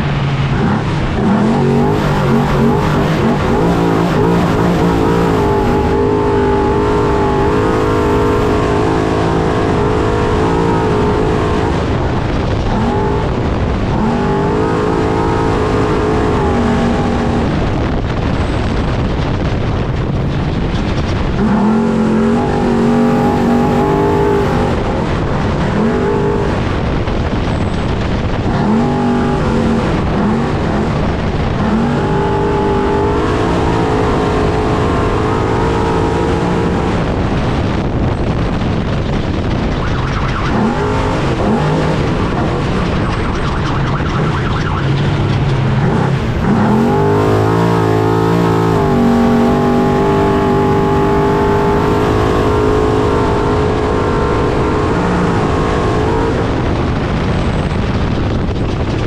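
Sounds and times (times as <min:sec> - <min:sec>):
rough truck driving noise: 0:00.0 - 0:59.0
truck engine revving: 0:00.0 - 0:59.0.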